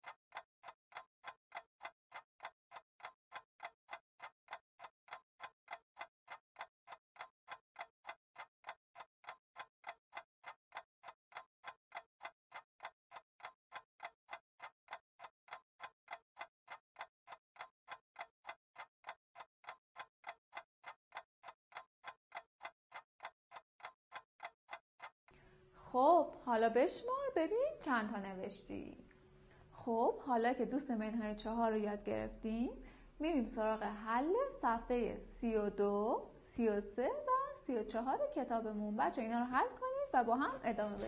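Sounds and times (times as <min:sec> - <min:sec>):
stopwatch ticking: 0:00.0 - 0:25.2, 0:29.7 - 0:41.0.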